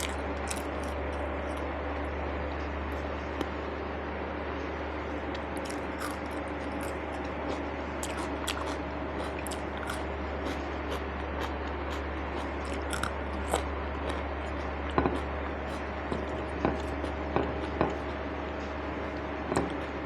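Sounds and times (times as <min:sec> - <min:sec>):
person chewing and eating: 0:00.0 - 0:02.2, 0:05.1 - 0:20.0
steady low hum: 0:00.0 - 0:20.0.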